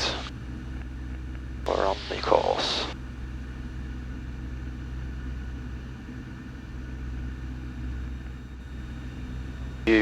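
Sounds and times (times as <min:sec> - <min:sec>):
airplane engine droning: 0:00.0 - 0:10.0.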